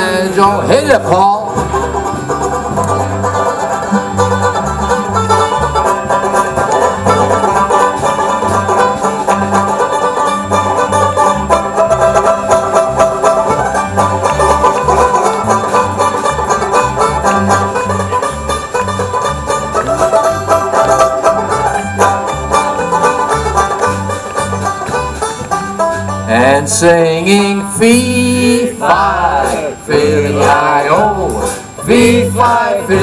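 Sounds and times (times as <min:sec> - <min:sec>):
banjo: 0:00.0 - 0:33.0
pulsing bass line: 0:00.0 - 0:33.0
string band playing: 0:00.0 - 0:33.0.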